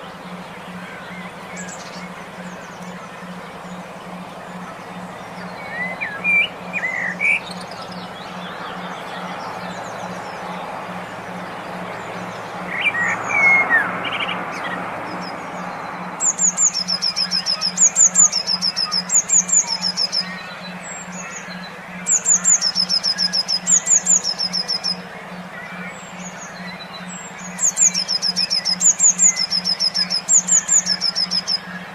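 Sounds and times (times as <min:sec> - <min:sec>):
low pulsing hum: 0:00.0 - 0:31.9
lower bird calls: 0:00.0 - 0:31.9
songbird chirping: 0:00.0 - 0:31.9.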